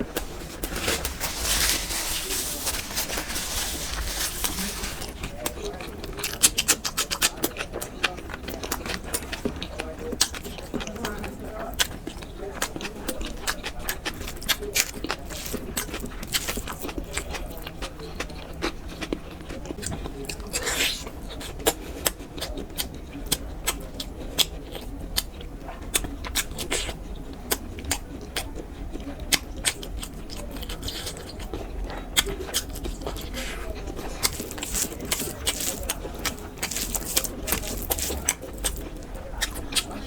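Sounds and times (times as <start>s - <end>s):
chewing and mouth smacking: 0.0s - 40.0s.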